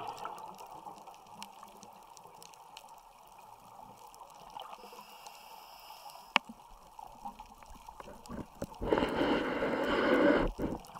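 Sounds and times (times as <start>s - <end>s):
underwater crackling and clicks: 0.0s - 10.9s.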